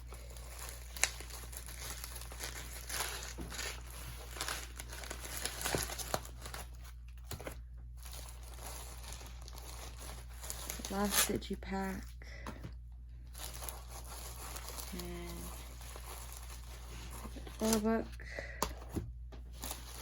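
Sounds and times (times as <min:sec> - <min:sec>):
bubble wrap crinkling: 0:00.0 - 0:12.4, 0:13.1 - 0:18.2, 0:19.5 - 0:20.0.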